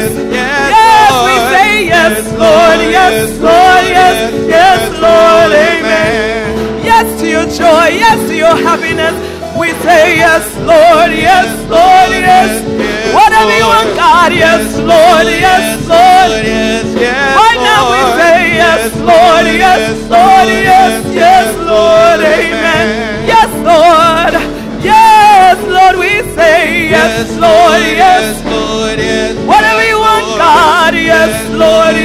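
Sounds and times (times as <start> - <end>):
keyboard chords: 0.0 - 32.0
woman singing gospel: 0.0 - 32.0.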